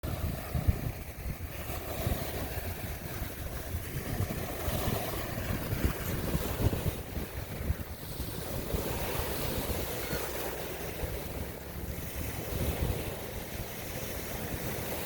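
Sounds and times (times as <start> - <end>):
waves washing: 0.0 - 15.0
wind buffeting microphone: 0.0 - 15.0.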